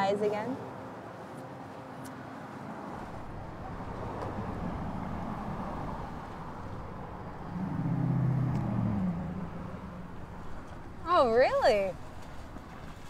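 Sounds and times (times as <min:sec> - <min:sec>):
passing cars: 0:00.0 - 0:13.0
vehicle engine hum: 0:00.0 - 0:13.0.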